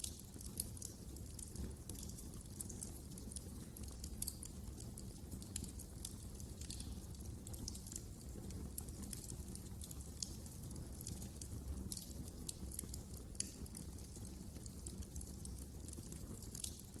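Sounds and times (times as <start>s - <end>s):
low rumble of flames: 0.0s - 17.0s
sharp pops and snaps: 0.0s - 17.0s
wood fire crackling: 0.0s - 17.0s.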